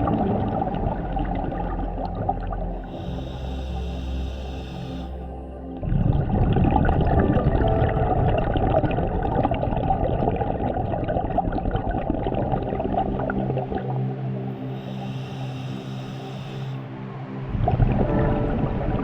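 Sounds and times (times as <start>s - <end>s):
underwater bubbles gurgling: 0.0s - 3.1s, 5.8s - 16.7s, 17.5s - 19.0s.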